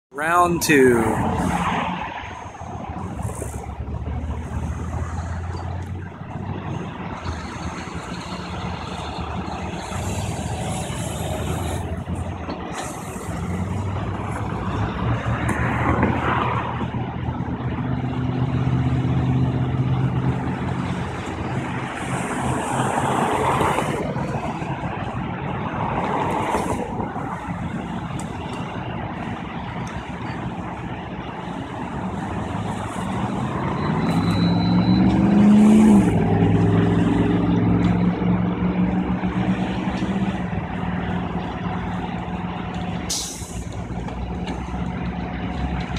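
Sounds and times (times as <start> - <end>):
traffic passing: 0.1 - 45.9
heavy truck engines running: 0.2 - 45.9.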